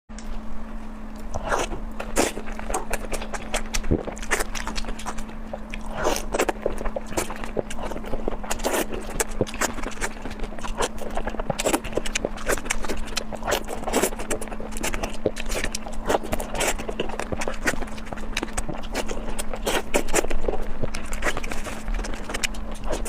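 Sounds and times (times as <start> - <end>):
steady hum: 0.1 - 23.0.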